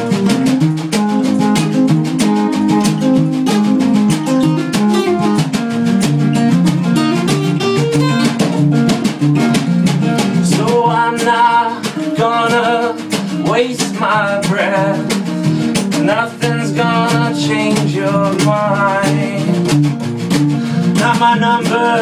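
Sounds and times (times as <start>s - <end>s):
guitar picking notes: 0.0s - 22.0s
guitar strumming: 0.0s - 22.0s.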